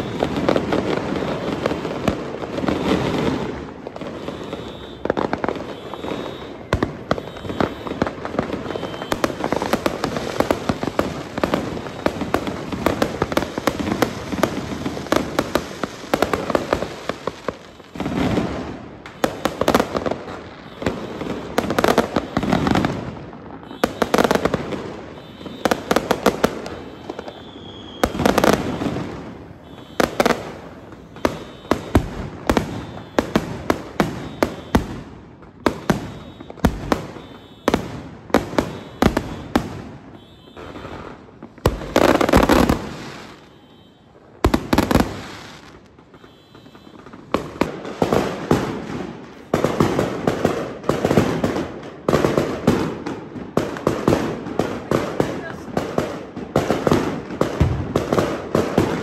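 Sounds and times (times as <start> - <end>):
fireworks bangs and crackles: 0.0 - 59.0
heavy firework blasts: 0.0 - 59.0.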